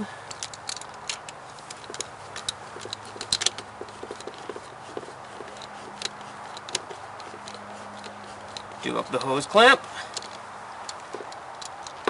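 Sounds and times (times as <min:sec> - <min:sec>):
rubber and plastic clicking: 0:00.3 - 0:12.0.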